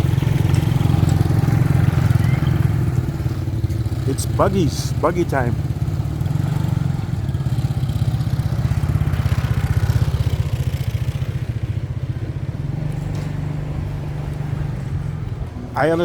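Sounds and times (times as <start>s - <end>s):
buggy engine running: 0.0s - 16.0s.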